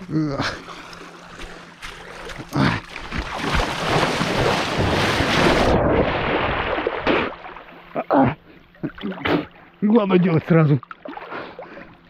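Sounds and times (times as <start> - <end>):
water splashing as person wades: 0.5 - 8.1, 8.7 - 12.0.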